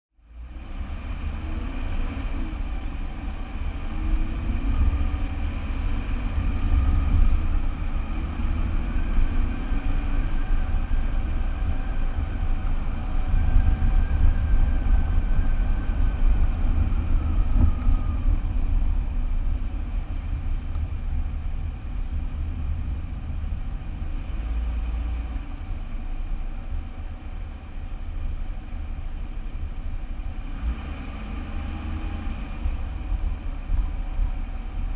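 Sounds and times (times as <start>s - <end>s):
car engine and road noise: 0.1s - 34.9s
wind rumble on microphone: 0.3s - 34.9s
faint whine: 1.6s - 30.5s.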